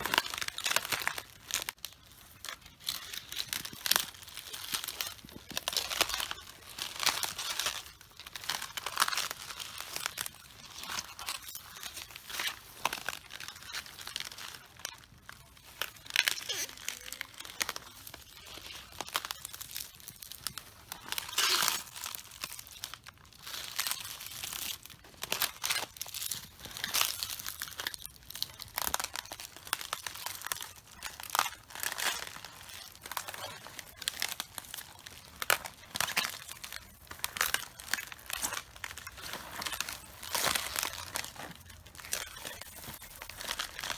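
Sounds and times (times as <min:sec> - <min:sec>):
footsteps crunching cabbage leaves: 0:00.0 - 0:43.9.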